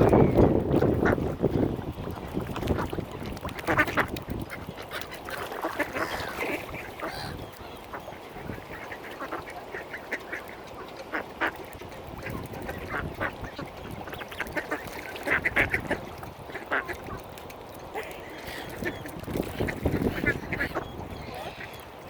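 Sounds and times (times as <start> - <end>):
ducks quacking: 0.0 - 21.9.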